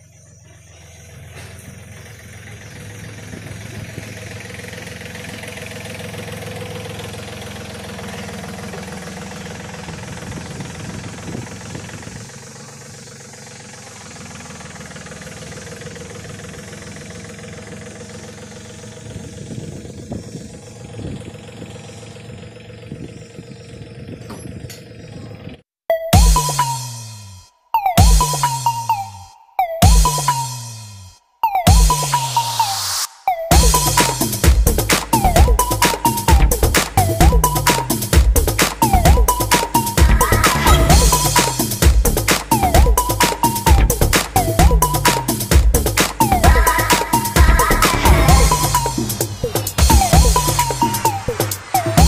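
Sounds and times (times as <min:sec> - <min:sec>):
vehicle engine running: 0:00.0 - 0:27.1, 0:29.8 - 0:52.0.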